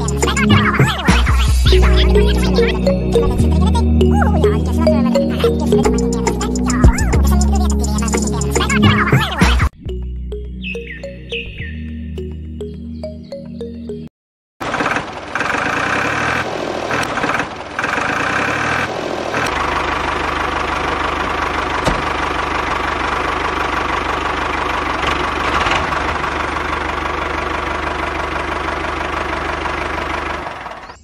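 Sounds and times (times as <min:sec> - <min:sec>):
tractor engine idling: 0:00.0 - 0:09.3, 0:14.6 - 0:31.0.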